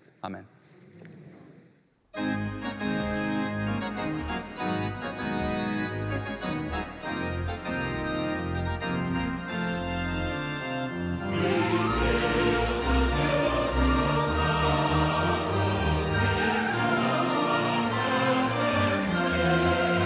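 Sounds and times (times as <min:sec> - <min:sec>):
organ playing sustained chords: 0:02.2 - 0:20.0.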